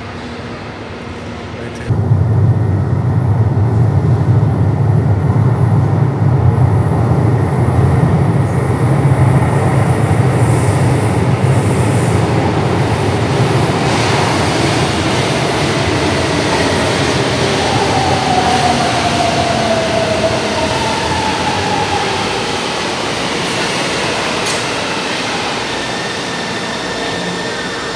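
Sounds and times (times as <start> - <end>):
low rumble from tunnel: 1.3 - 27.5.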